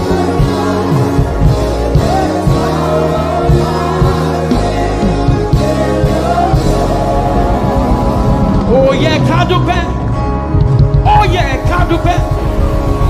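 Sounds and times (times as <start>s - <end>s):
gospel band playing: 0.0s - 13.0s.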